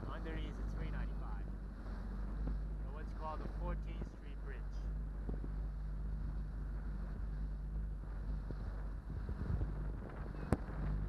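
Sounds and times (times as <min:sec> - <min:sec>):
outboard motor running: 0:00.0 - 0:11.0
wind buffeting microphone: 0:00.0 - 0:11.0.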